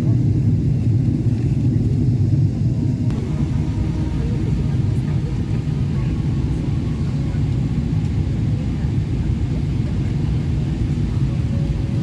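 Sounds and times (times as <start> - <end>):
airplane cabin engine and airflow noise: 0.0 - 12.0
faint steady tones: 0.1 - 12.0.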